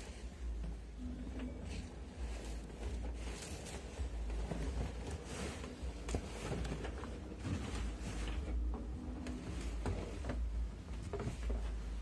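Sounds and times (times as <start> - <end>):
bed sheets rustling: 0.0 - 12.0
low steady rumble: 0.0 - 12.0.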